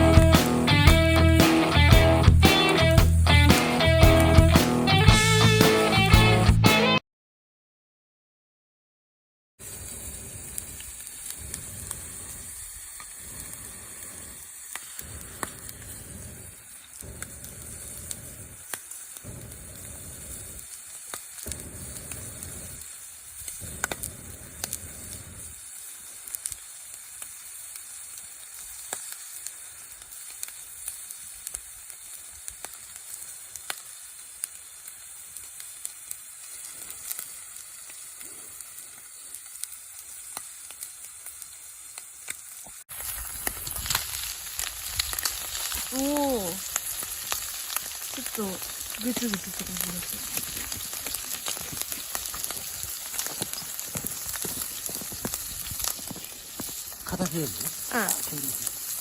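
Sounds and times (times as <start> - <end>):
bacon sizzling in a skillet: 0.0 - 6.9, 9.6 - 59.0
campfire crackling and popping: 0.0 - 7.0, 9.6 - 59.0.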